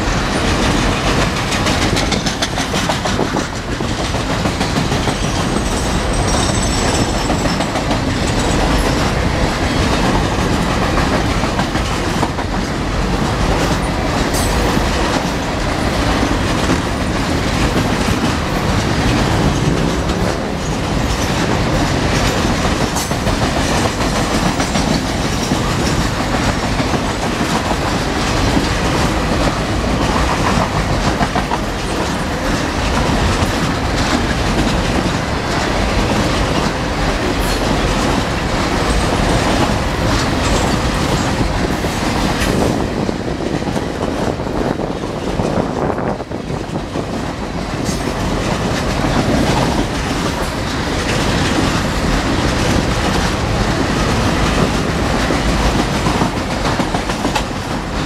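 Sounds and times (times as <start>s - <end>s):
steel wheels rolling on rails: 0.0s - 58.0s
wheels clicking over rail joints: 0.1s - 58.0s.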